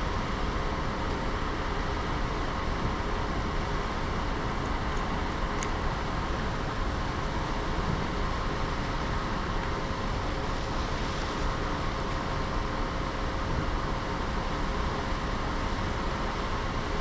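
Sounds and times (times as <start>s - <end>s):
low engine hum: 0.0s - 17.0s
water rushing from wake: 0.0s - 17.0s.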